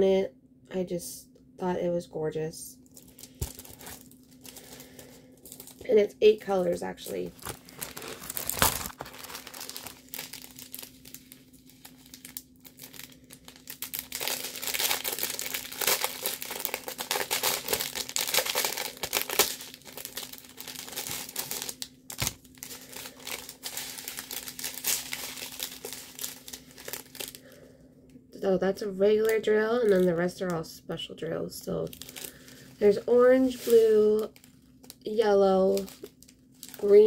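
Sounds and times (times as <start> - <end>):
low steady hum: 0.0 - 37.0
plastic packaging crinkling: 2.8 - 27.6, 29.1 - 30.5, 31.5 - 37.0.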